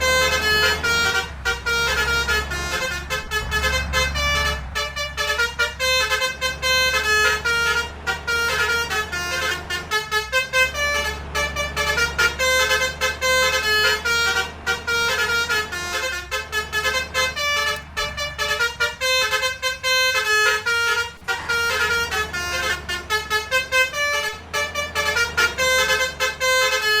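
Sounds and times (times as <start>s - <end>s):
bus multi-tone air horn tune: 0.0s - 27.0s
low engine hum: 0.0s - 27.0s.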